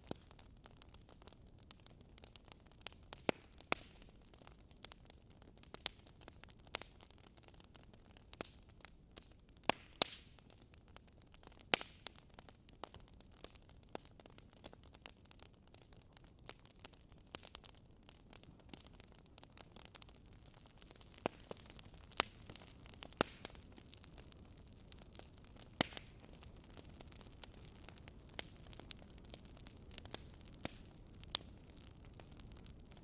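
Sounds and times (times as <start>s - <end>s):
fire soft hiss: 0.0s - 33.0s
wood fire pops and snaps: 0.0s - 33.0s.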